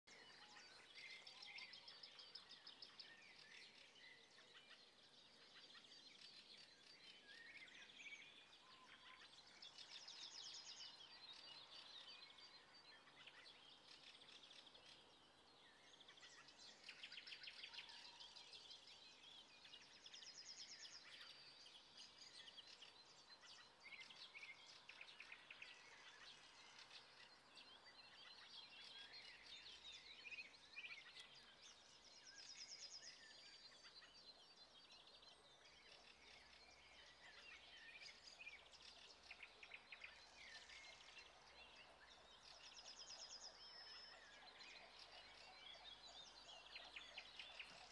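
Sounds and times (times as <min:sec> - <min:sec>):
faint birdsong chirps and trills: 0:00.0 - 0:47.9.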